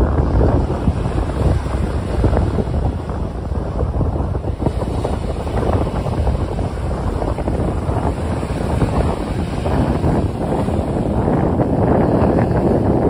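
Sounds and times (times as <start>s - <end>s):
small waves breaking on sand: 0.0s - 13.0s
wind buffeting microphone: 0.0s - 13.0s.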